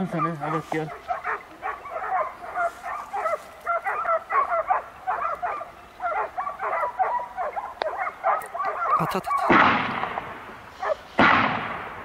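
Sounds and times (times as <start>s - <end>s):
dogs baying and yelping: 0.0s - 9.5s, 10.7s - 11.1s.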